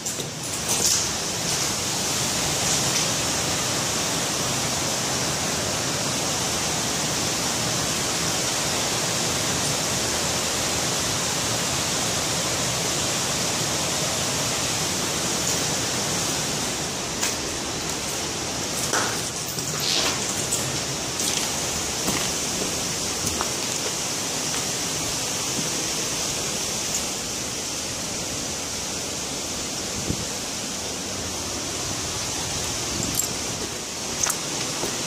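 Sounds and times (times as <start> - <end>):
water rushing: 1.1 - 35.0.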